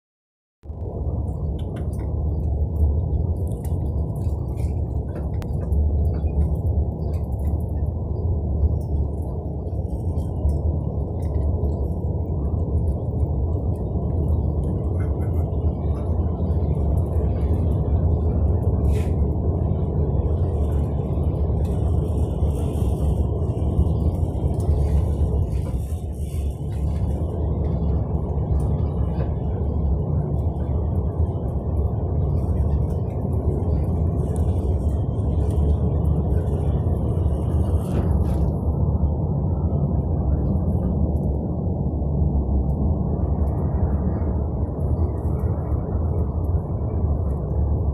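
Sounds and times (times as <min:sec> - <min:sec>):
bus engine and road rumble: 0:00.6 - 0:47.9.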